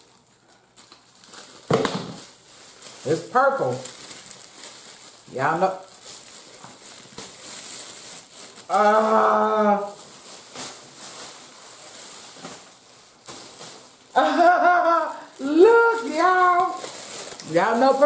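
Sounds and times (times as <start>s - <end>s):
plastic packaging rustling: 0.0s - 18.0s.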